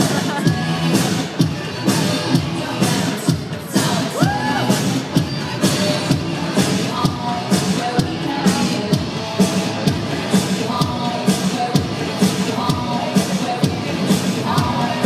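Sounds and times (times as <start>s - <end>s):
music with steady drum beat: 0.0s - 15.0s.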